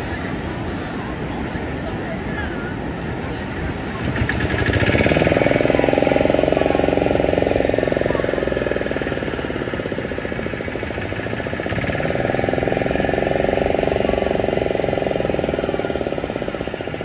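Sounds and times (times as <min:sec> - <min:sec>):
outboard motor running fast: 0:00.0 - 0:17.0.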